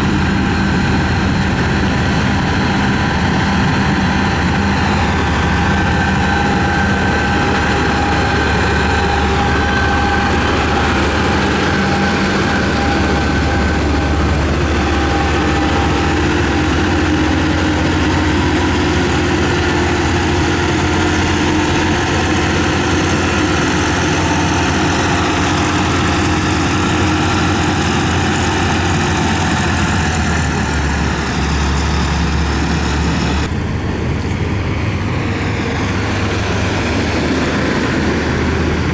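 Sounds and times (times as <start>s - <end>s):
heavy machinery diesel engine running: 0.0s - 38.9s.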